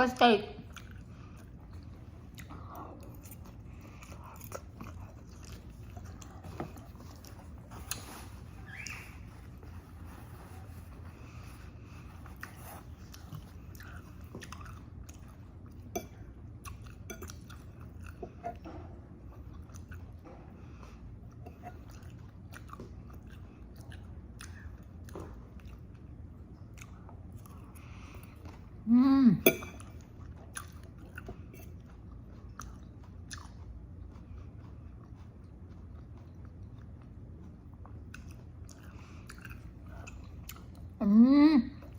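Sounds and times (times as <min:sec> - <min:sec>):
person chewing crunchy food: 0:00.6 - 0:28.8, 0:29.5 - 0:41.0.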